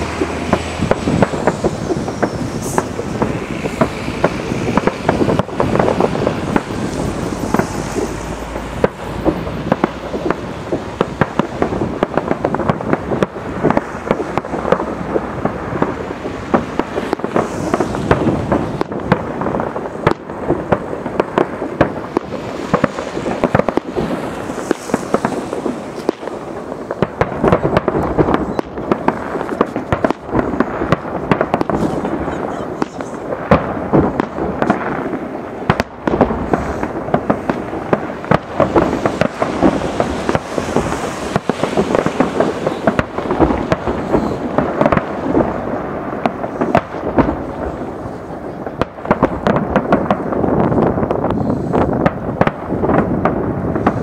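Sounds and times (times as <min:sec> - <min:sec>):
firework shells bursting: 0:00.0 - 0:54.0.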